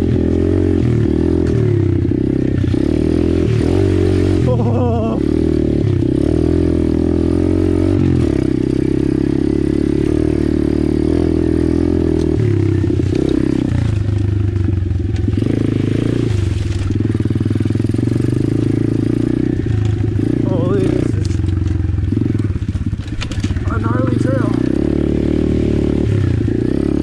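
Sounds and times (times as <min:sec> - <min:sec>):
motorbike engine revving: 0:00.0 - 0:27.0.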